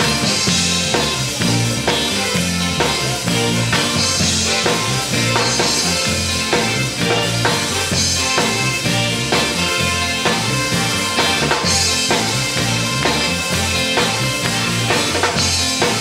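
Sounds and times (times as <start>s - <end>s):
bass line: 0.0s - 16.0s
drum kit beat: 0.0s - 16.0s.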